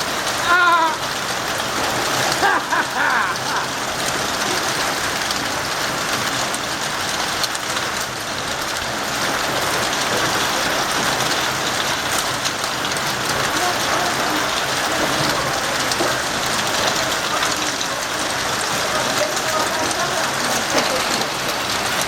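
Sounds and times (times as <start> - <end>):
heavy rain and hail: 0.0 - 22.0.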